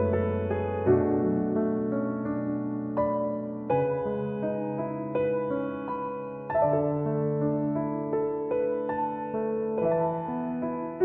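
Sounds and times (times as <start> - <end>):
soft keyboard music: 0.0 - 11.0.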